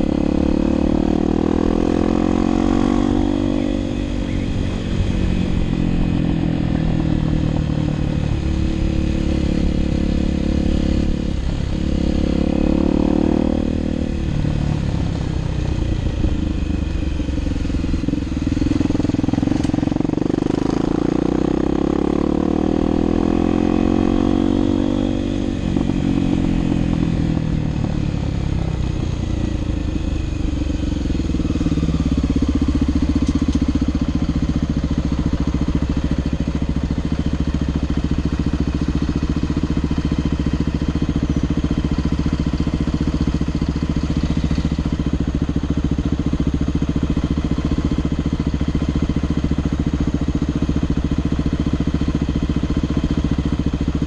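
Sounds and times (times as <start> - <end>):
motorcycle engine idling: 0.0 - 54.0
motorcycle engine winding down: 0.0 - 54.0.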